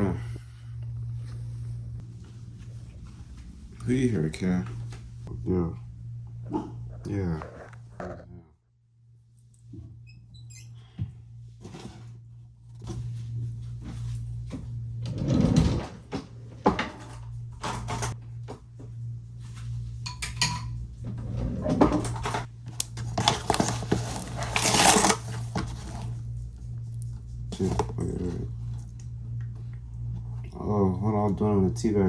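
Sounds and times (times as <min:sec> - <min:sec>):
steady low hum: 0:00.0 - 0:10.1, 0:16.1 - 0:32.0.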